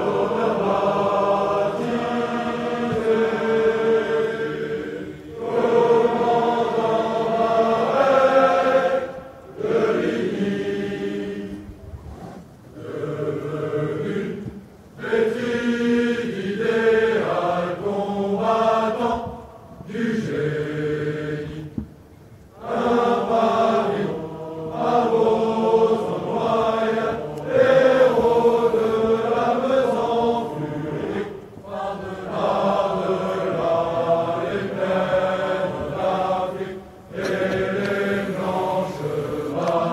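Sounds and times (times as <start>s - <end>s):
group singing a cappella: 0.0s - 39.9s.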